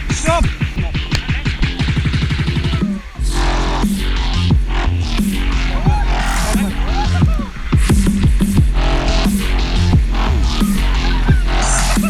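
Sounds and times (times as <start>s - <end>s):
dubstep music with heavy bass: 0.0s - 12.0s.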